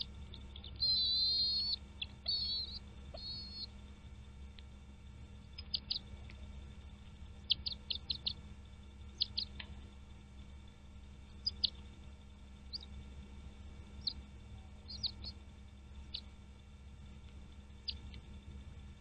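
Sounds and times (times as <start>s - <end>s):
bird chirping: 0.0s - 18.8s
faint low hum: 0.0s - 19.0s.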